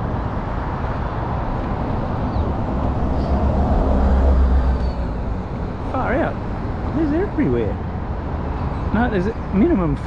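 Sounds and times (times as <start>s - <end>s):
road traffic passing: 0.0s - 10.0s
vehicle engine rumble: 0.0s - 10.0s.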